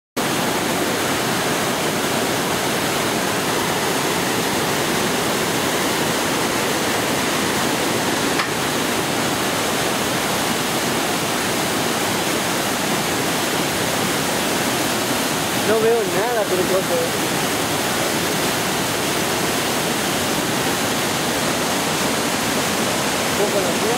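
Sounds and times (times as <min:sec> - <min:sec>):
waterfall rushing: 0:00.2 - 0:23.9.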